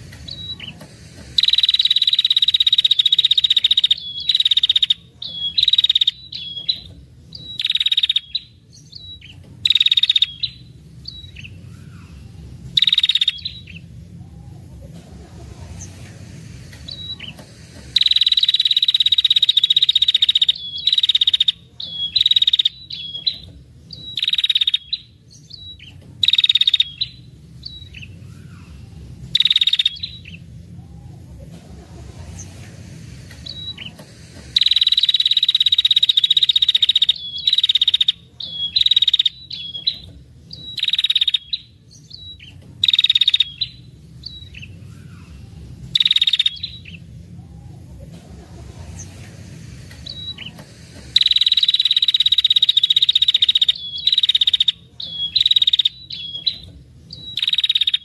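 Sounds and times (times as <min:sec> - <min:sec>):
bird trilling calls: 0:00.0 - 0:14.8, 0:16.8 - 0:31.3, 0:33.4 - 0:48.0, 0:50.0 - 0:58.0.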